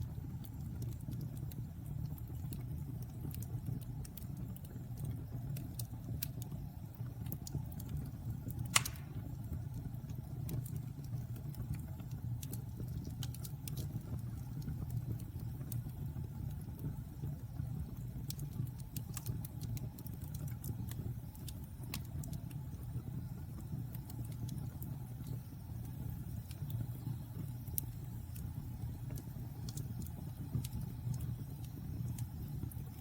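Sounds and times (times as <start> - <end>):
fire crackling and popping: 0.0 - 33.0
fire rumbling in fireplace: 0.0 - 33.0.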